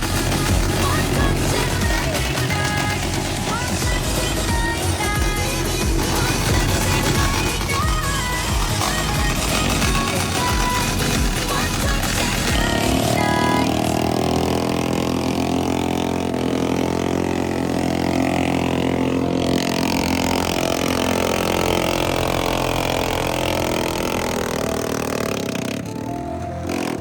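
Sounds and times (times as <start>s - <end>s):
motorcycle engine at high revs: 0.0s - 27.0s.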